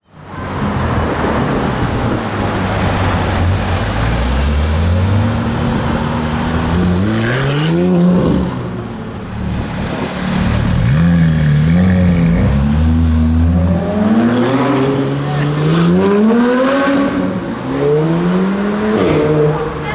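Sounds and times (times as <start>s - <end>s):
sports car engine revving: 2.8s - 19.8s.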